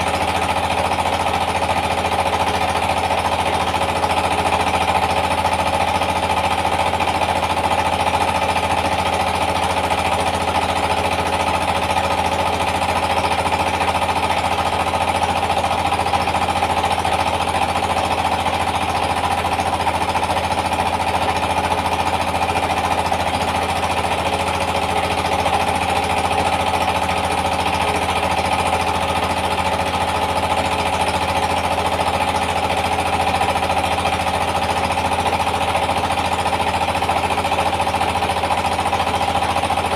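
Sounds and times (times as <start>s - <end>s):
diesel engine pounding: 0.0s - 39.9s.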